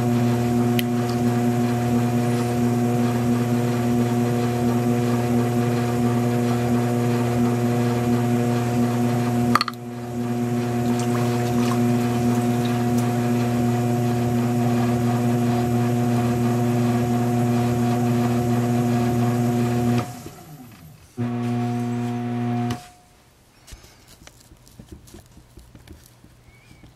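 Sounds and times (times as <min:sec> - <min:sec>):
potter's wheel motor humming: 0:00.0 - 0:22.9.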